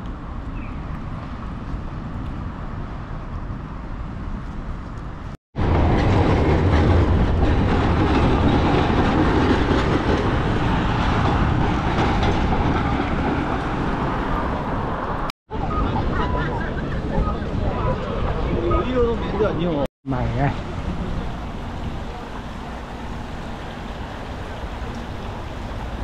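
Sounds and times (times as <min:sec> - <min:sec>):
street traffic: 0:00.0 - 0:26.0
streetcar wheels on track: 0:00.0 - 0:26.0.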